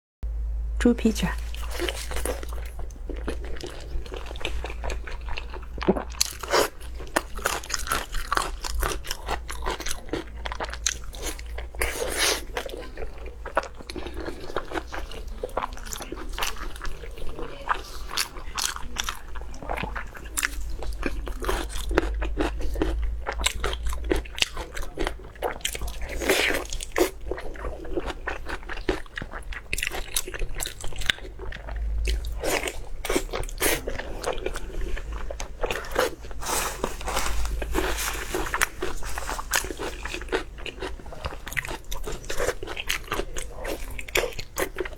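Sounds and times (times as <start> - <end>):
person chewing crunchy food: 1.4 - 44.9.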